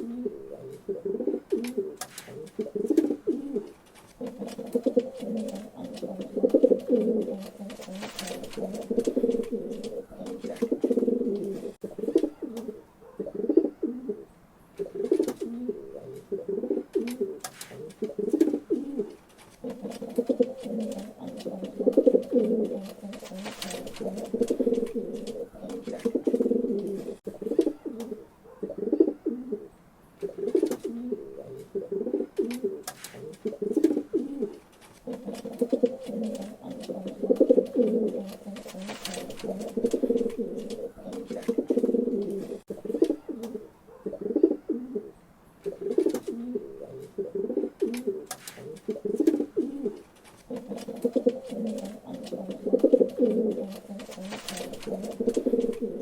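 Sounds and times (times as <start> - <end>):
pigeons cooing: 0.0 - 56.0
faint clicks and rustles: 1.5 - 12.7, 14.8 - 28.2, 30.2 - 43.6, 47.8 - 56.0.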